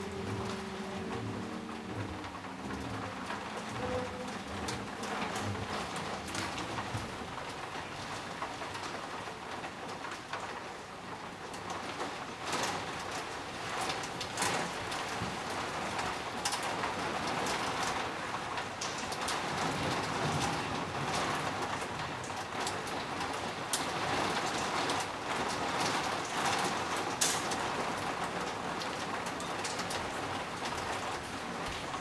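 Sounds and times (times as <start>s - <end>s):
rain on foliage: 0.0s - 32.0s.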